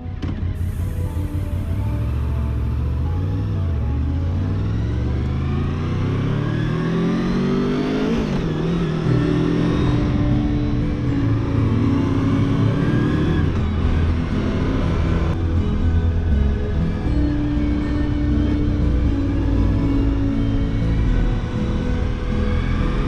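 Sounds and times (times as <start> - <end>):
motorcycle engine accelerating: 0.1 - 23.0.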